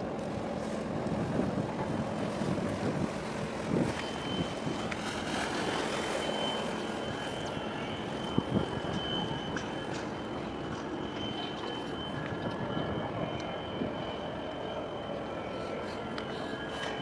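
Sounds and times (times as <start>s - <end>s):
wind on microphone: 0.0s - 14.2s
ship engines rumbling: 0.0s - 17.0s
thin high whine: 0.0s - 17.0s.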